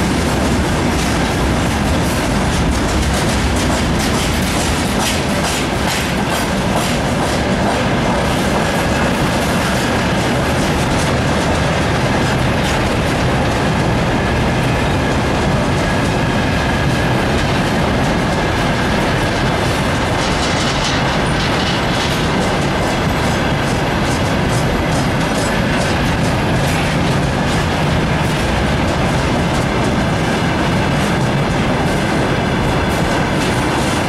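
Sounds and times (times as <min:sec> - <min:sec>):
train wheels rumbling on rails: 0:00.0 - 0:34.0
wheels clacking over rail joints: 0:00.0 - 0:34.0.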